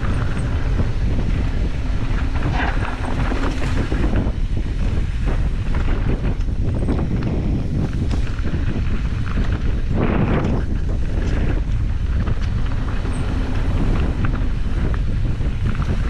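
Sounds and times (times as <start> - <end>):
bike tyres crunching over gravel: 0.0 - 16.0
wind buffeting microphone: 0.0 - 16.0.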